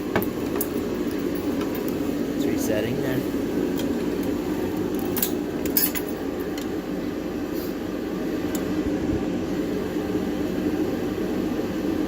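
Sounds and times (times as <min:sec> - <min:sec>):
space heater humming: 0:00.0 - 0:12.0.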